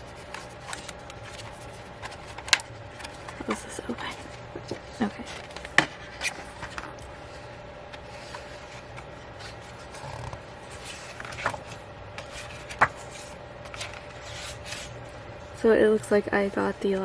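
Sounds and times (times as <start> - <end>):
paper and card rubbing: 0.0 - 15.1.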